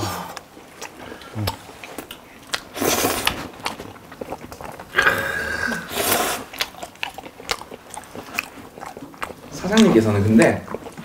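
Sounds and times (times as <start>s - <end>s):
chewing: 0.1s - 11.0s.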